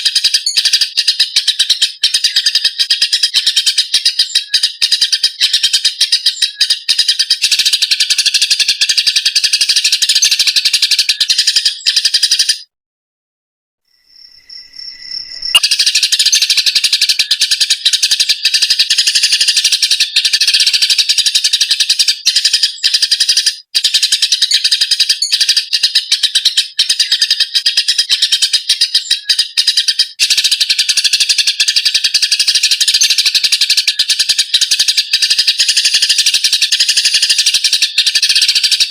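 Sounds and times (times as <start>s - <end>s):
sparrows chirping shrilly: 0.0s - 12.7s, 14.3s - 38.9s.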